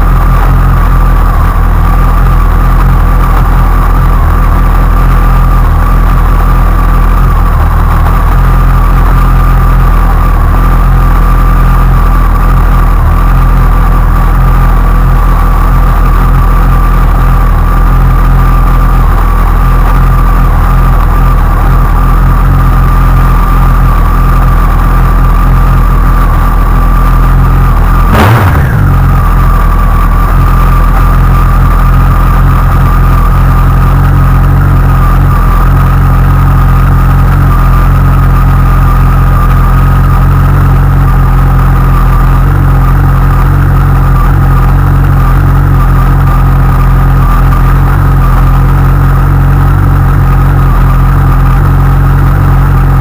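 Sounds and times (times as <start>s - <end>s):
high whine: 0.0s - 53.0s
motorcycle engine running: 0.0s - 53.0s.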